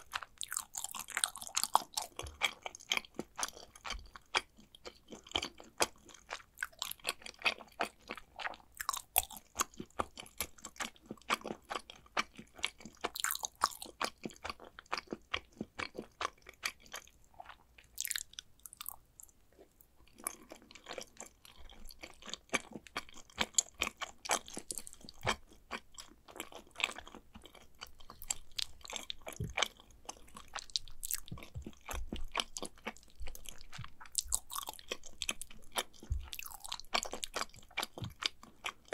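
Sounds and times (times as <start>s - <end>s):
close chewing with mouth clicks: 0.0s - 38.9s.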